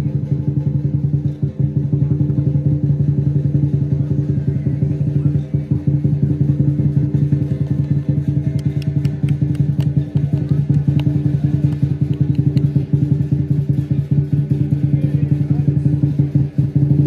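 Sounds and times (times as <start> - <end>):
drum fast roll: 0.2 - 17.0.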